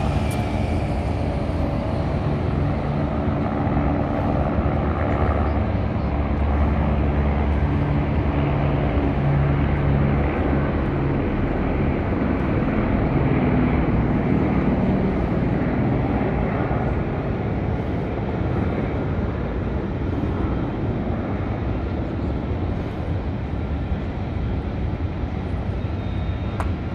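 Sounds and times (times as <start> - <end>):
helicopters flying past: 0.0 - 26.9
low hum: 0.0 - 26.9.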